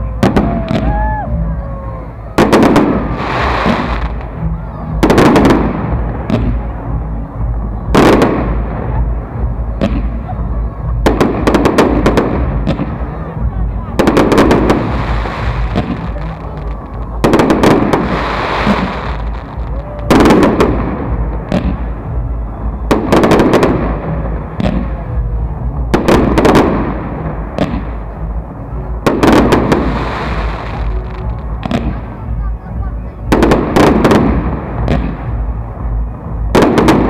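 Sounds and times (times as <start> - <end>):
fireworks booming: 0.0 - 37.0
fireworks crackling: 0.0 - 37.0.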